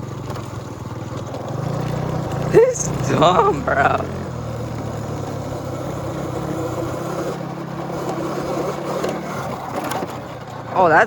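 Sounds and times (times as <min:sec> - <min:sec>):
small motorbike engine humming: 0:00.0 - 0:11.0
wind and riding noise: 0:00.0 - 0:11.0.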